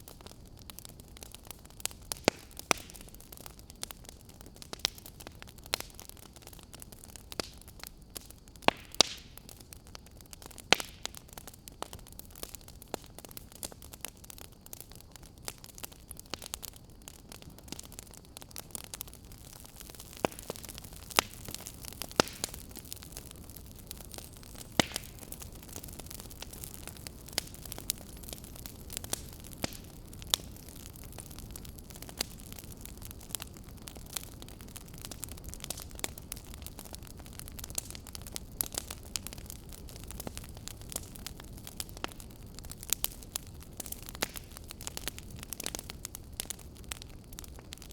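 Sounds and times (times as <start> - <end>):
fire hiss: 0.0 - 47.9
wood fire crackling: 0.0 - 47.9.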